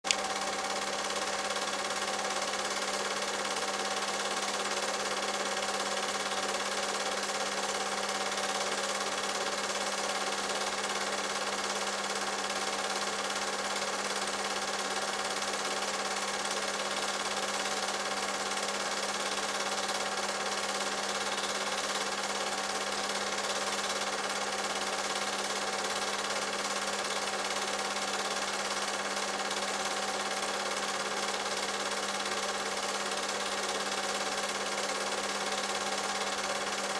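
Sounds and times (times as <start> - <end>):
film projector whirring: 0.0 - 36.9.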